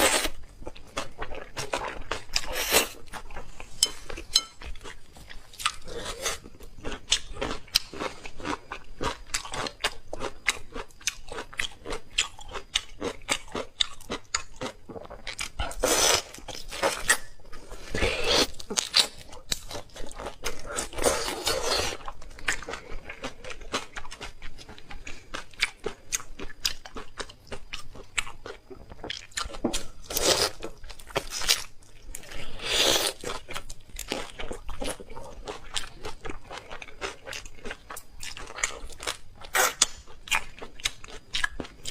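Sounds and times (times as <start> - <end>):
person chewing crunchy food: 0.0 - 41.9.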